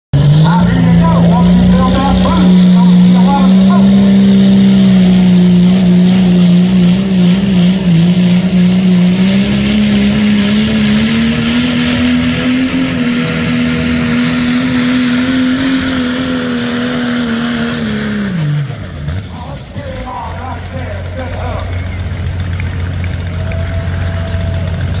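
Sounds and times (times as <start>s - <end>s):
diesel engine at full throttle: 0.1s - 25.0s.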